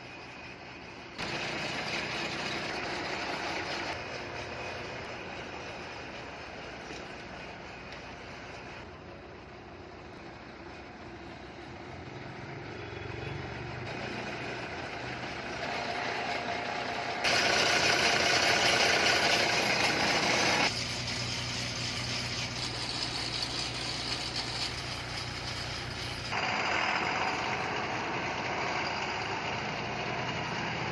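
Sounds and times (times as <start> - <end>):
diesel truck engine idling: 0.0 - 13.0, 13.8 - 30.9
loud noise over engine: 0.0 - 30.9.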